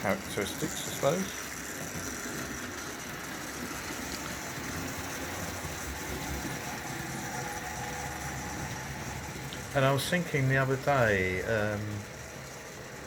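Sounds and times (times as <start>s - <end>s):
model train motor whirring: 0.0s - 13.0s
wheels rolling on rails: 0.0s - 13.0s.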